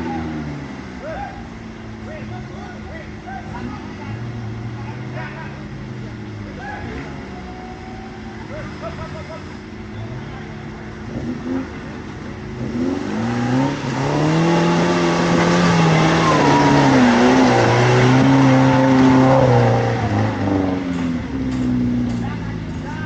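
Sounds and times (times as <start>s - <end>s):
off-road engine revving: 0.0s - 23.0s.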